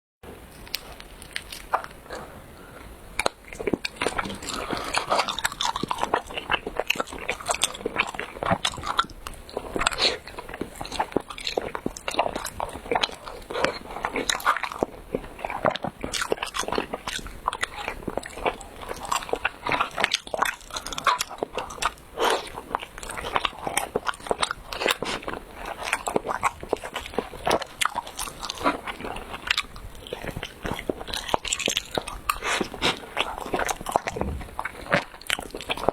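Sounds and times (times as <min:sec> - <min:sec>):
chewing sticky food: 0:00.3 - 0:35.9.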